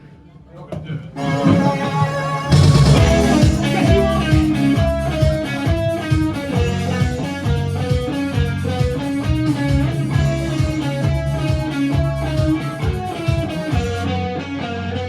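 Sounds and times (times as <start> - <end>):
steady drum beat: 1.2 - 14.0
bass guitar: 1.2 - 15.0
electric guitar melody: 1.2 - 15.0.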